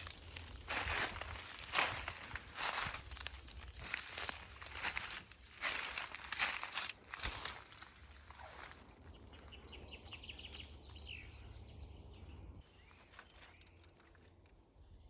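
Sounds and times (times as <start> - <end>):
low steady rumble: 0.0 - 12.7
songbird chirping: 0.0 - 15.0.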